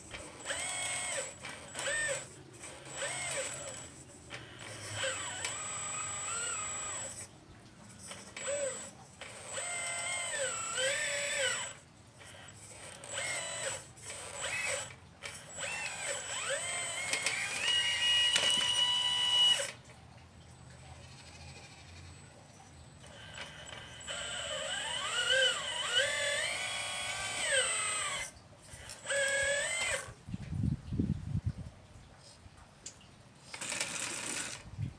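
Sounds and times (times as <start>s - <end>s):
electric motor and hydraulic whine: 0.0s - 19.9s, 23.0s - 30.2s, 33.5s - 34.7s.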